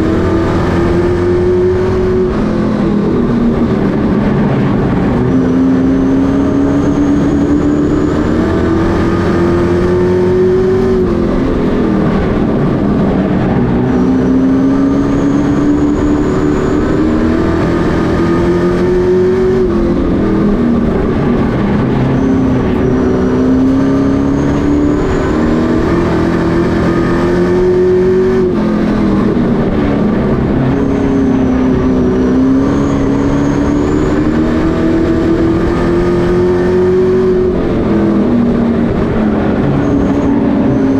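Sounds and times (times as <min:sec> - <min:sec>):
racing truck engines: 0:00.0 - 0:40.9.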